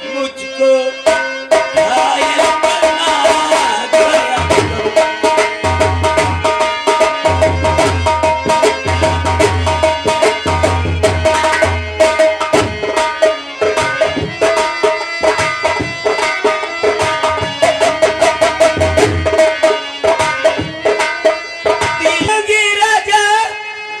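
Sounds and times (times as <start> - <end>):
sustained melody line: 0.0 - 22.6
rapid hand drum strokes: 1.6 - 22.3.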